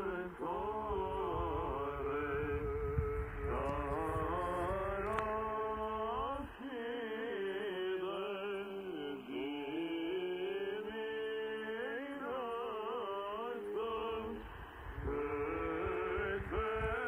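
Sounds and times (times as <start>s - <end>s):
chanted singing on am radio: 0.0s - 17.0s.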